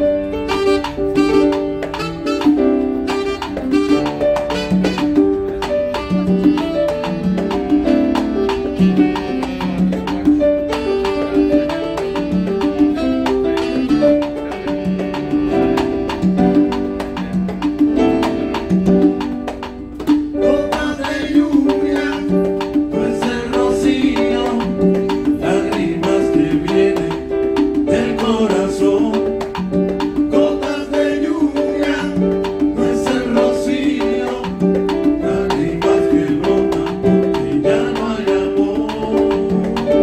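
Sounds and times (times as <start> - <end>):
live band playing salsa: 0.0 - 40.0.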